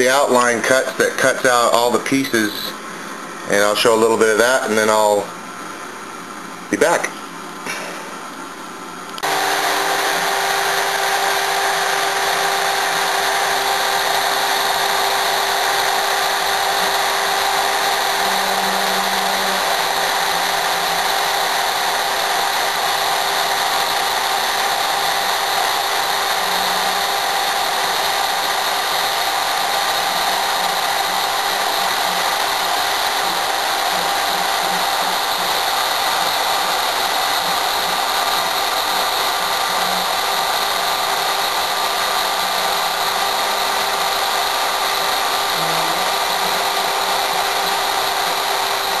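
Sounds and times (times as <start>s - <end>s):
router spindle whining: 9.1s - 49.0s.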